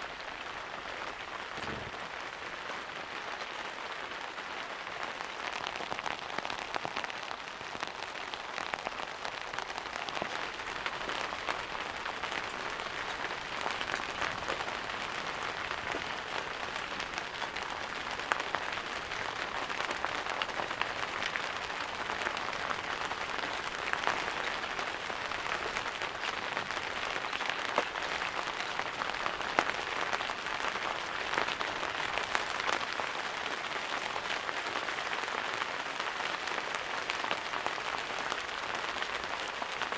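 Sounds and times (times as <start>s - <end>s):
raindrops ticking on a surface: 0.0s - 39.9s
steady rain falling: 0.0s - 39.9s.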